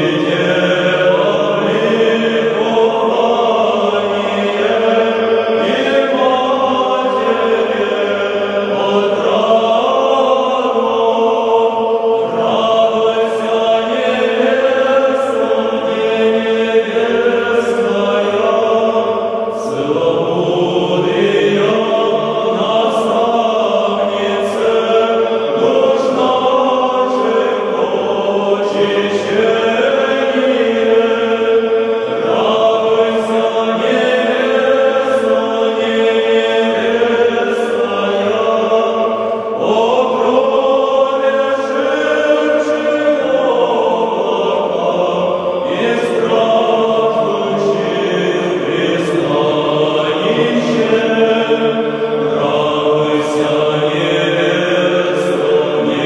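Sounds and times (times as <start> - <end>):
choir chanting: 0.0 - 56.0.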